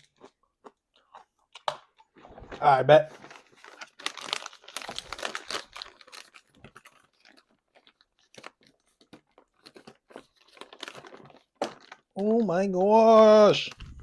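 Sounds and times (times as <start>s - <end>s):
mouth chewing crunchy radish: 0.0s - 12.3s.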